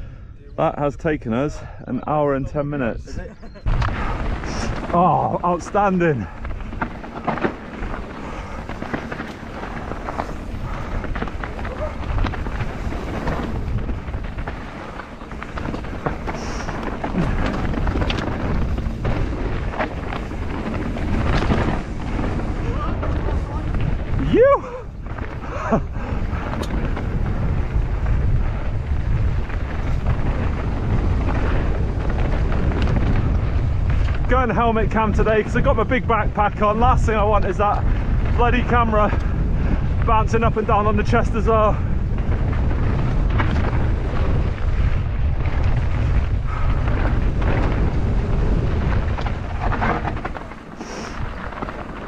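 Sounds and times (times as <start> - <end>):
wind rumble on microphone: 0.0 - 52.0
bike rattles and ticks: 2.6 - 52.0.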